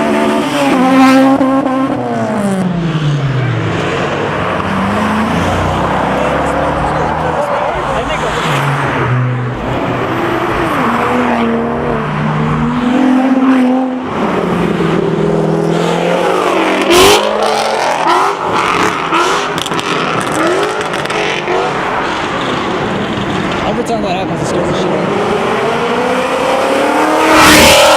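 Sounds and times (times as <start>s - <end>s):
car engines revving: 0.0s - 27.9s.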